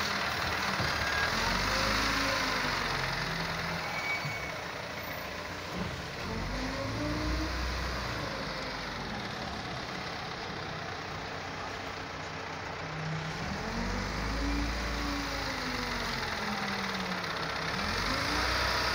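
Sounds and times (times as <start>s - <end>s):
wheel loader diesel engine: 0.0s - 18.9s.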